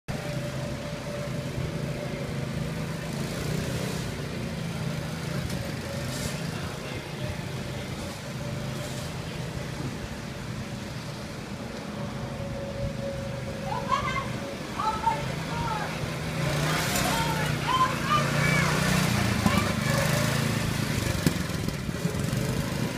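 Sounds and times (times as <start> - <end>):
go-kart motor humming: 0.1 - 22.9.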